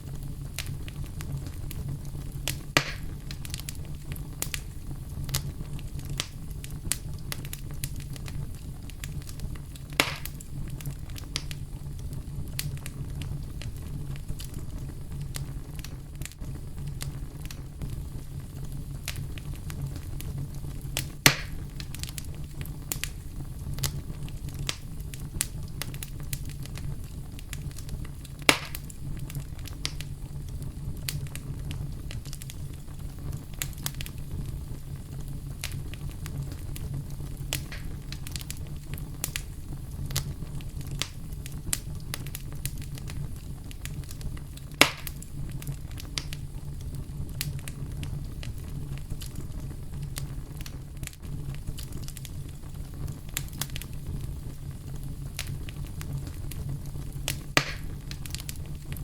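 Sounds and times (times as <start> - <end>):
campfire crackling: 0.0 - 59.0
loud fire pops: 0.0 - 59.0.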